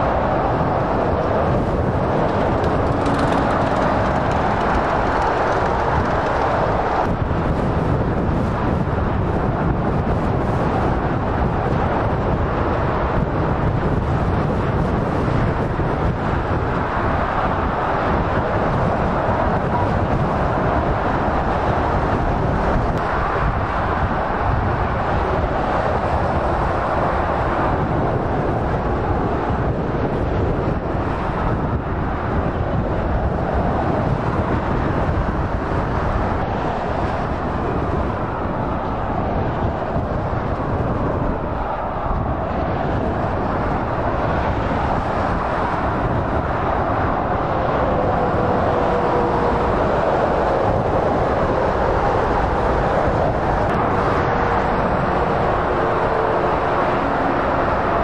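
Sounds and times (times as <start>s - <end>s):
motorway traffic rushing: 0.0s - 58.0s.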